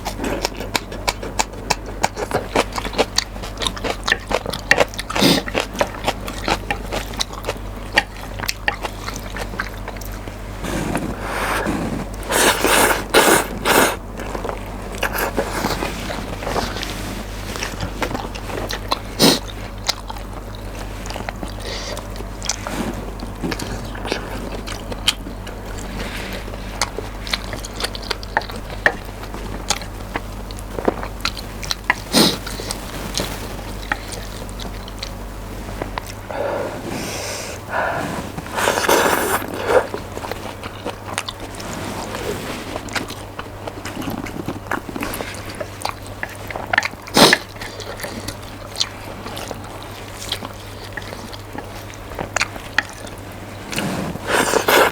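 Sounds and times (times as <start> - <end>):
chewing with wet mouth clicks: 0.0 - 36.3, 38.4 - 54.9
low steady hum: 0.0 - 54.9.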